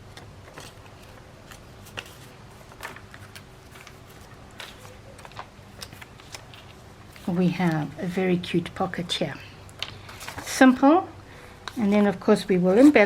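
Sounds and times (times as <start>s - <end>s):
paper rustling: 0.0s - 8.2s, 9.8s - 10.8s, 11.6s - 13.0s.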